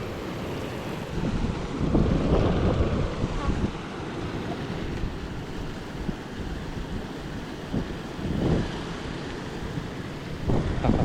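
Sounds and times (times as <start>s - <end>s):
stream water running: 0.0s - 11.0s
wind rumbling on microphone: 0.0s - 11.0s.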